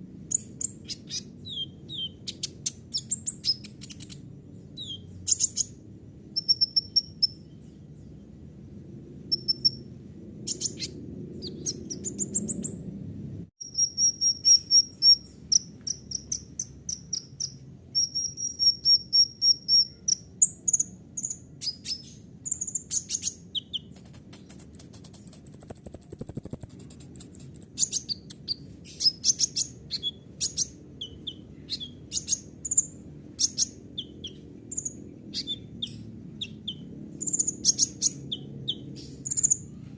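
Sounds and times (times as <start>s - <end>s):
faint low hum: 0.0s - 39.9s
sunbird singing: 0.2s - 12.9s, 13.6s - 39.9s.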